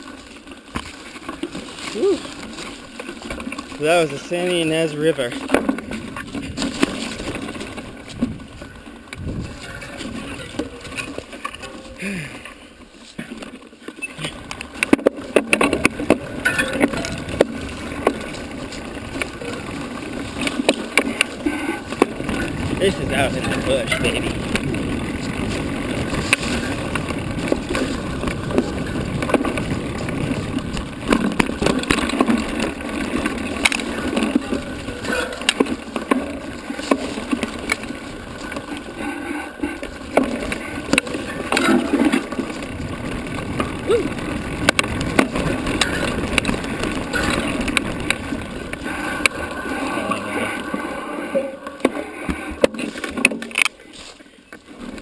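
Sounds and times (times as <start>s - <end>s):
bicycle tyre rumble on dirt: 0.0s - 55.0s
bike clicks and rattles: 0.0s - 55.0s.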